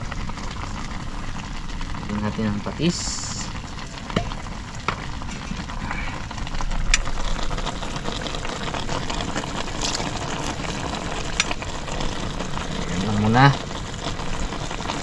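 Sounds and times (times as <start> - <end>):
pot of broth boiling: 0.0 - 15.0.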